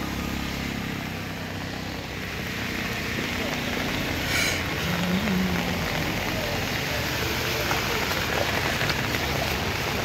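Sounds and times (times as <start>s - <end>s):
rain pattering on water: 0.0s - 10.0s.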